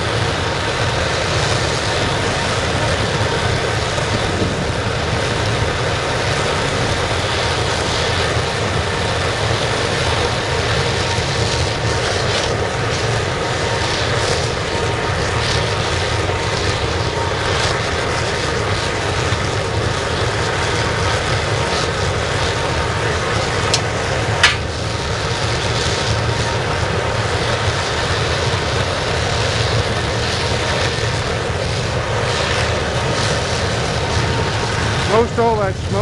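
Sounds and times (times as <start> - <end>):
burner flame roaring: 0.0 - 36.0.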